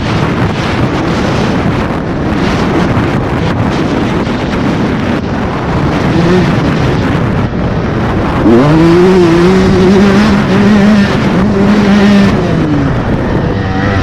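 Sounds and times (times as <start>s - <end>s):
motocross bike engine: 0.0s - 14.0s
wind buffeting microphone: 0.0s - 14.0s.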